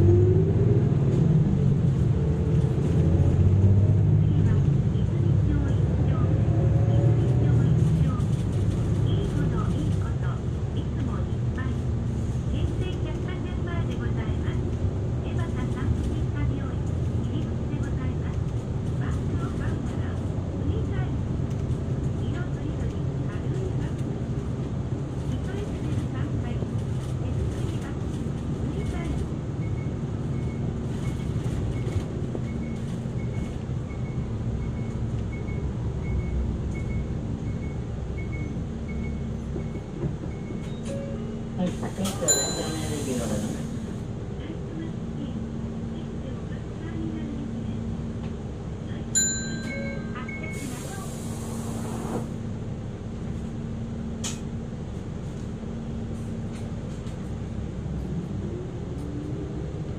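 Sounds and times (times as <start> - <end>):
bus drivetrain and road rumble: 0.0 - 59.9.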